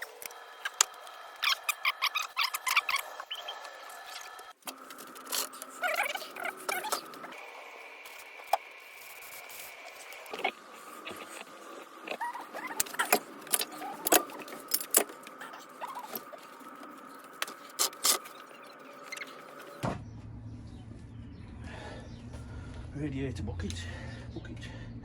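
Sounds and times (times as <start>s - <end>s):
low steady hum: 4.2s - 25.0s.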